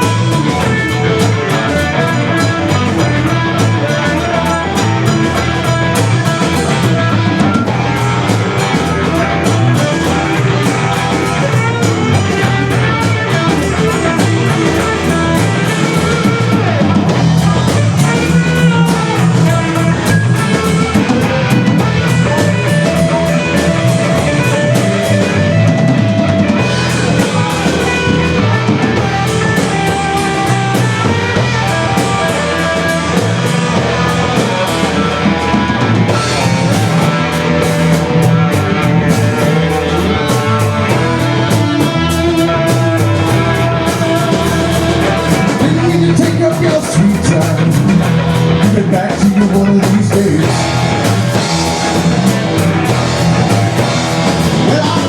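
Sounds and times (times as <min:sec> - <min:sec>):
drum kit beat: 0:00.0 - 0:55.0
rock band playing: 0:00.0 - 0:55.0.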